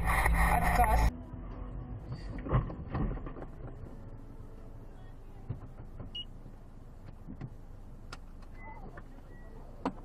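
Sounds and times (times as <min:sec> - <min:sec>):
car engine hum: 0:00.0 - 0:10.0.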